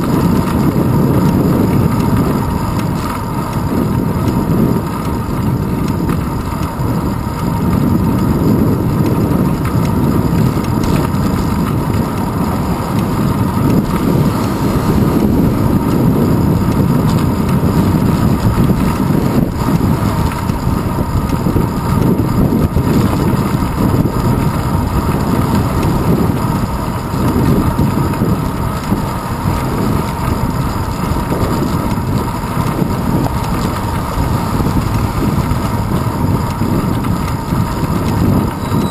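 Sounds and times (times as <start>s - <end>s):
wind rumble on microphone: 0.0s - 38.9s.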